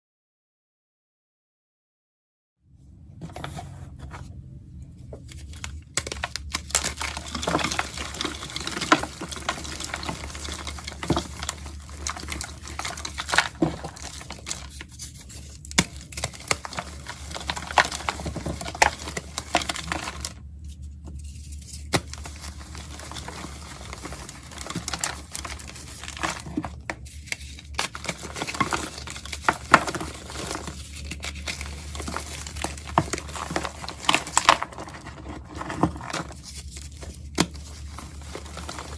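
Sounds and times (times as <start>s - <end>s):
chalky powder crunching: 5.6s - 38.9s.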